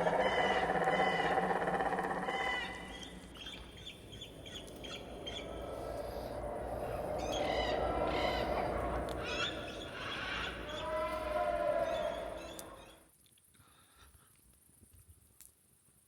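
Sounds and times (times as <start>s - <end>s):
bird drawn-out cry: 0.0s - 13.0s
birds chirping and squawking: 0.0s - 13.0s.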